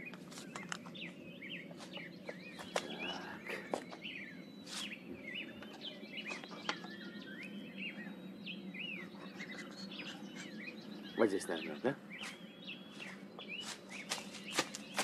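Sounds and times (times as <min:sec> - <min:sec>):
outdoor background hum: 0:00.0 - 0:15.0
small birds chirping: 0:00.0 - 0:15.0.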